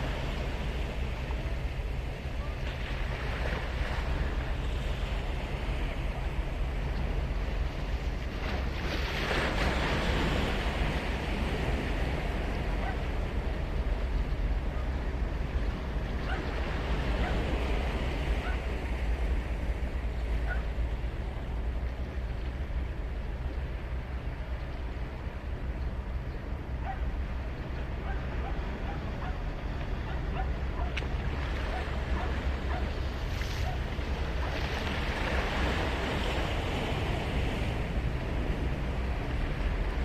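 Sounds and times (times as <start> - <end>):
waves breaking on beach: 0.0 - 40.0.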